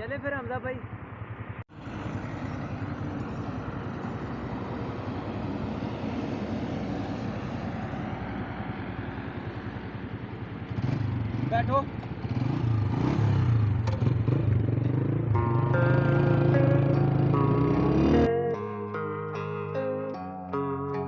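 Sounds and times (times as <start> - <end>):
motorcycle engine running: 0.0 - 18.3
road traffic noise: 0.0 - 18.3.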